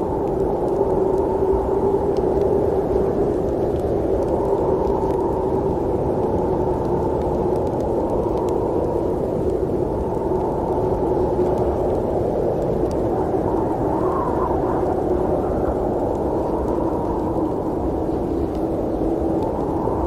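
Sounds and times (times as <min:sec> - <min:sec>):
muffled rushing wind: 0:00.0 - 0:20.0.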